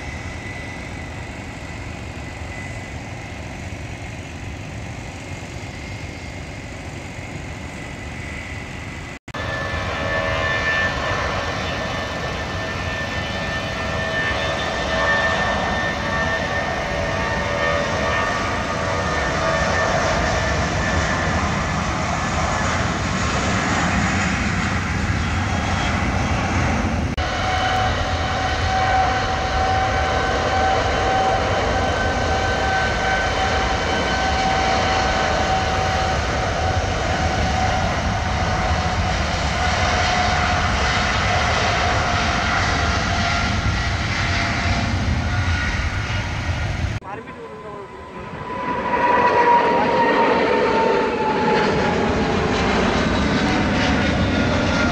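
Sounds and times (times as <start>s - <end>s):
jet engines rumbling with whine: 0.0s - 54.9s.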